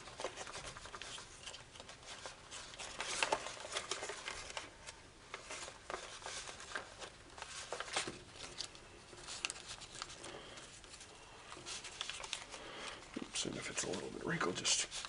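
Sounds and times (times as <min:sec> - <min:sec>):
foil paper crinkling: 0:00.0 - 0:15.0.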